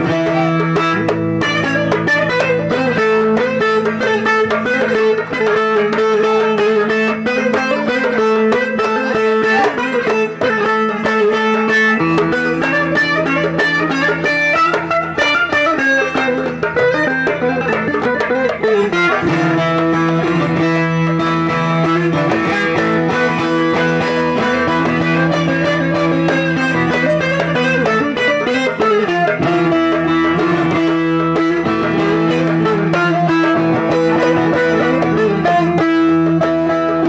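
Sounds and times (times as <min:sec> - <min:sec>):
plucked lutes playing melody: 0:00.0 - 0:37.0.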